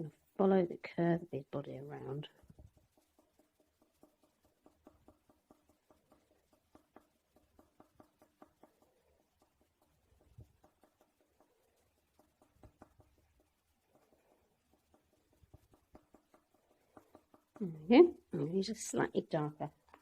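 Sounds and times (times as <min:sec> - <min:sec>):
pencil scratching on paper: 0:01.4 - 0:20.0.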